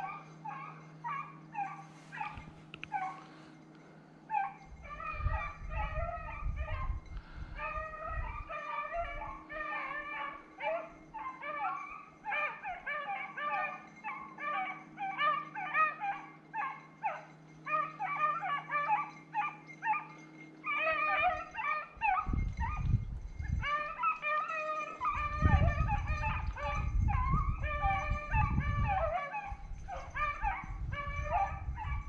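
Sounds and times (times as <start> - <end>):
dogs baying: 0.0 - 32.0.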